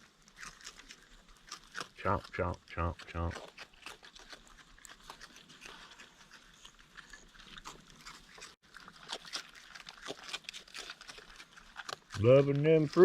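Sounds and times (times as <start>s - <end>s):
raccoons crunching cereal: 0.0s - 13.0s.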